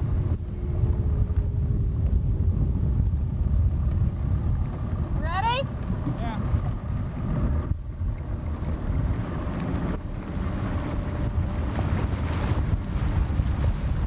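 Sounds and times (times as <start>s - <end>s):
boat engine rumble: 0.0s - 14.0s
wind buffeting microphone: 0.0s - 14.0s.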